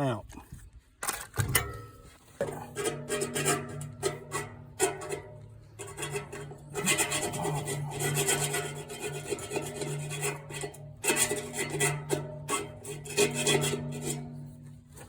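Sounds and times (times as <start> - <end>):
rasping scrape on steel pipe: 2.2 - 15.0.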